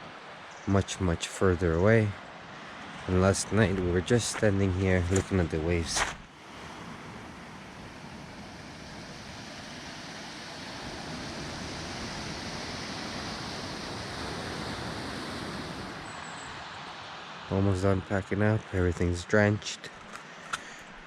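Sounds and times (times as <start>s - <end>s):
ocean surf on shore: 0.0s - 18.5s.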